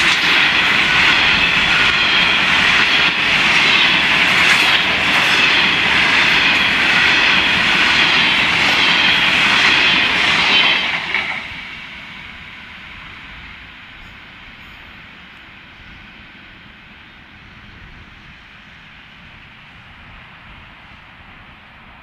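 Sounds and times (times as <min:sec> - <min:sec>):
freight train wagons rolling past: 0:00.0 - 0:22.0
steel wheels on rails: 0:00.0 - 0:22.0.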